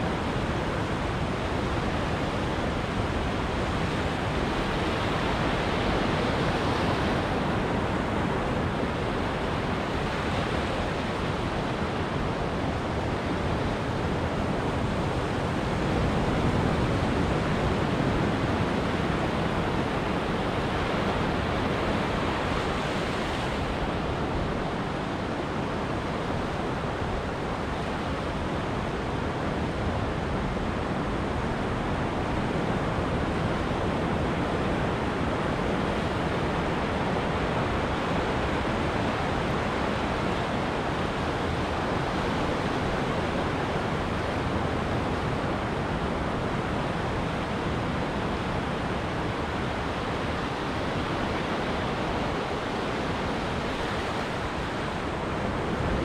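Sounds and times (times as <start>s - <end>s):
ocean surf on beach: 0.0s - 56.0s.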